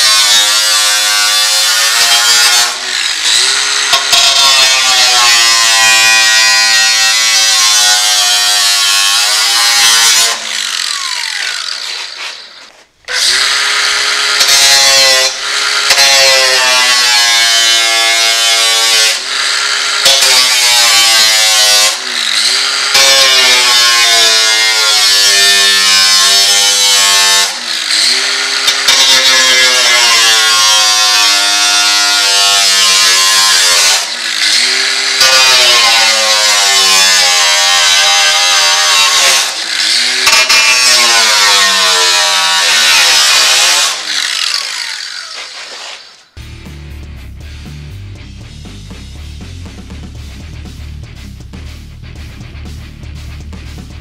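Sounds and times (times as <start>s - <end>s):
angle grinder cutting sheet metal: 0.0s - 46.7s.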